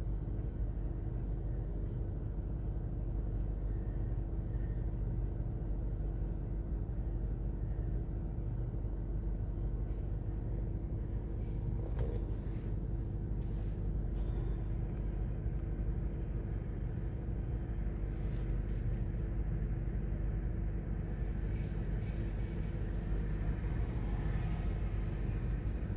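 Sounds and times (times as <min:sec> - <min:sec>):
low mechanical rumble with hum: 0:00.0 - 0:25.9.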